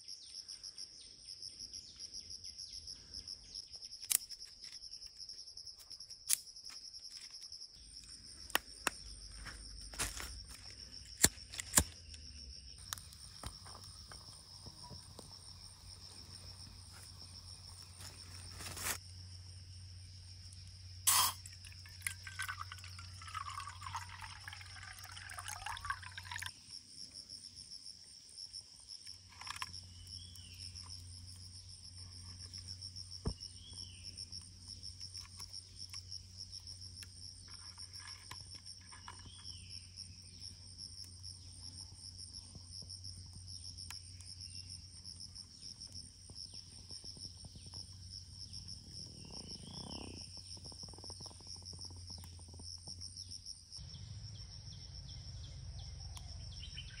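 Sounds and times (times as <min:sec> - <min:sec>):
insects trilling: 0:00.0 - 0:57.0
short insect call: 0:00.0 - 0:57.0.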